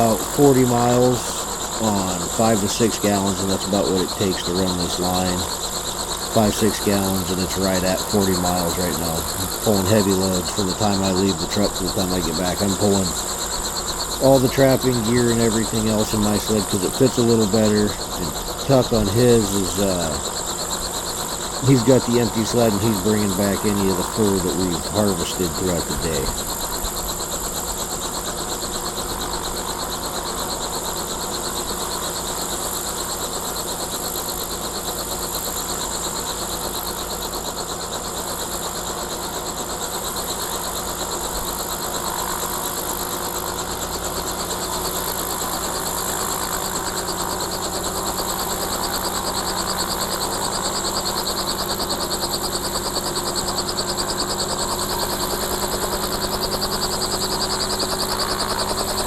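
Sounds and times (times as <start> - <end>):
helicopter turbine whine: 0.0 - 59.0.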